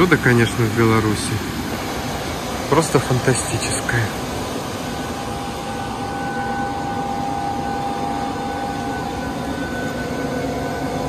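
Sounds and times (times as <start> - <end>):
faint turbine whine: 0.0 - 11.0
water rushing through turbine: 0.0 - 11.0.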